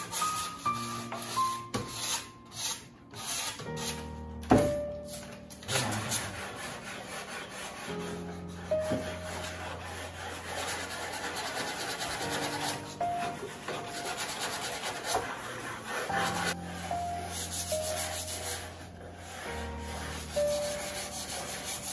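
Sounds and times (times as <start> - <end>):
background music: 0.0 - 21.9
hand sanding wood: 0.0 - 21.9.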